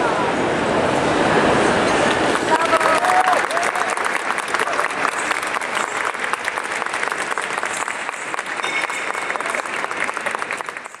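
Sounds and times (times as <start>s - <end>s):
crowd applauding: 2.1s - 11.0s.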